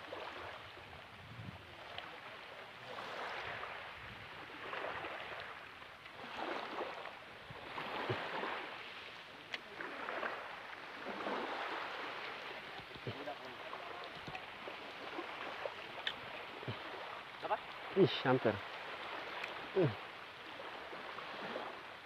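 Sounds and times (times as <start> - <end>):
small waves lapping on shore: 0.0 - 22.0.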